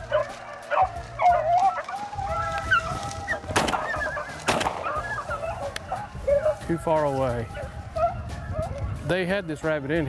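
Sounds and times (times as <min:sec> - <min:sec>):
dogs baying: 0:00.0 - 0:09.0.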